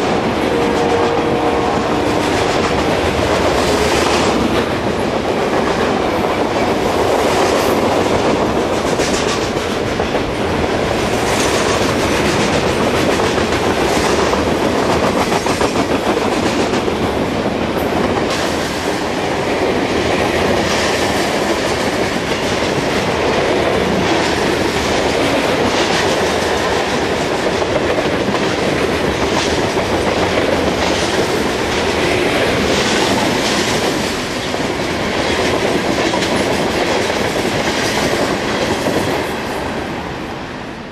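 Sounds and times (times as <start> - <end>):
clickety-clack over rail joints: 0.0 - 39.8
steel wheels rumbling on rail: 0.0 - 40.9.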